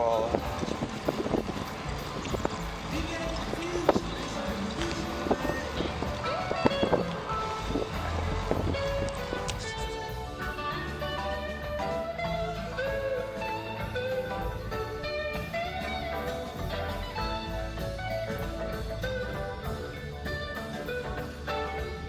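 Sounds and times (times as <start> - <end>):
bluesy band music: 0.0 - 22.0.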